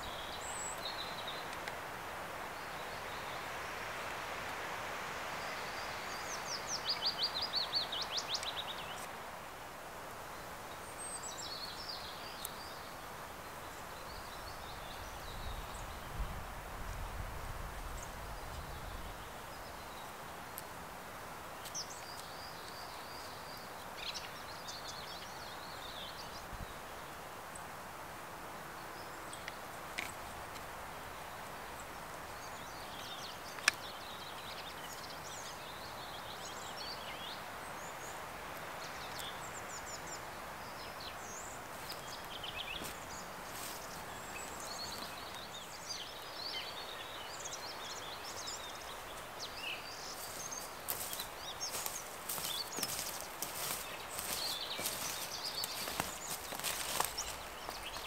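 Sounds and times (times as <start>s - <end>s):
small birds chirping: 0.0s - 9.2s, 10.1s - 16.3s, 17.8s - 27.8s, 28.4s - 58.0s
outdoor background rush: 0.0s - 58.0s.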